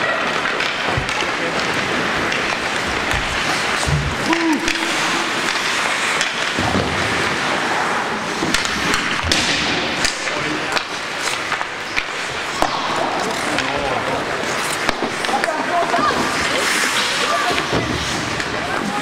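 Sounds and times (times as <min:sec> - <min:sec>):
hockey sticks clacking on puck: 0:00.0 - 0:07.7, 0:08.3 - 0:19.0
skate blades scraping ice: 0:00.0 - 0:19.0.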